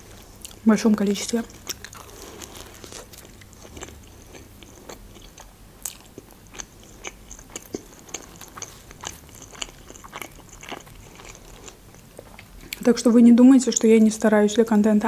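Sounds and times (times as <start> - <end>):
chewing crusty pastry: 0.0 - 12.9.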